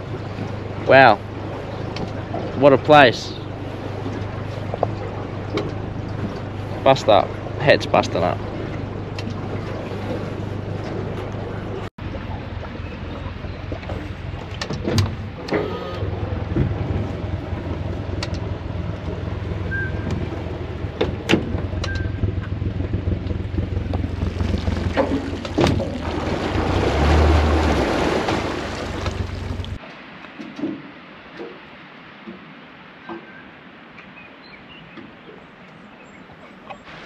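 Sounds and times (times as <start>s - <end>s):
outboard motor humming: 0.0s - 29.8s.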